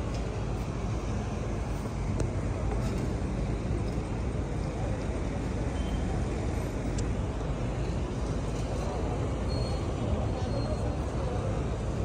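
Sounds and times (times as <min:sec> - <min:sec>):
constant low rumble: 0:00.0 - 0:12.0.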